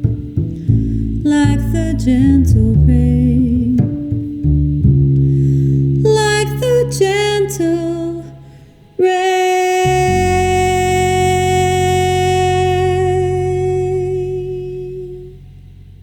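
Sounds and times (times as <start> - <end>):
woman singing jazz ballad: 0.0 - 4.4, 6.0 - 15.5
guitar: 0.0 - 15.3
low sustained bass: 0.0 - 16.0.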